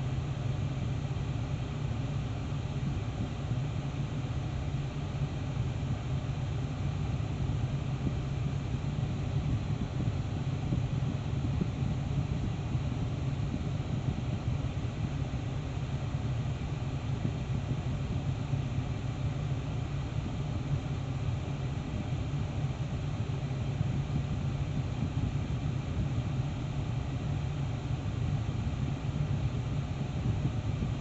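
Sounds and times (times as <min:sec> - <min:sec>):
white noise hiss from car speakers: 0:00.0 - 0:31.0.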